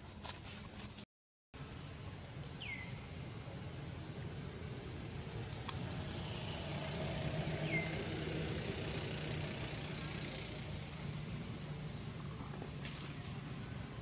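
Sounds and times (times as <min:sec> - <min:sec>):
engine humming: 0:01.6 - 0:14.0.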